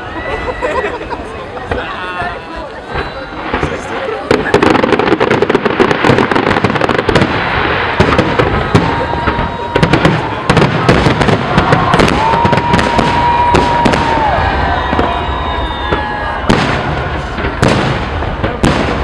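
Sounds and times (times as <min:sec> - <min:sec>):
fireworks bangs and crackling: 0:00.0 - 0:19.0
firework whistle: 0:02.8 - 0:19.0.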